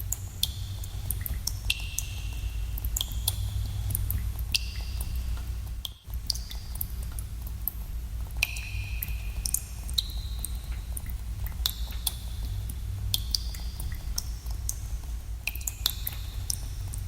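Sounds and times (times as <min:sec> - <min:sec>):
steady low rumble: 0:00.0 - 0:17.0
water drops plinking in a cave: 0:00.0 - 0:17.0.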